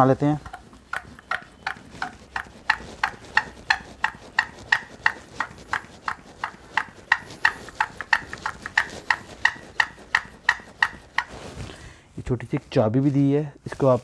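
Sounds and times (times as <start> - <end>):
hand pump strokes: 0.0 - 11.7.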